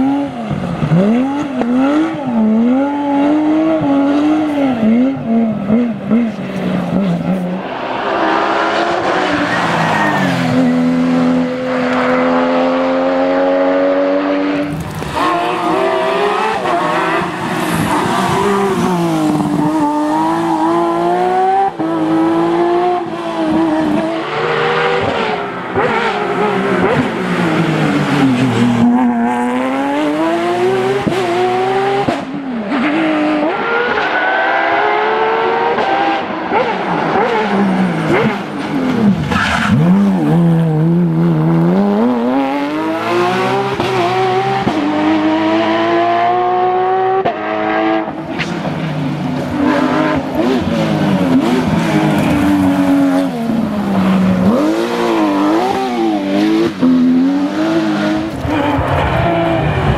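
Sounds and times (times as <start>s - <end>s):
racing engines at full throttle: 0.0s - 59.9s.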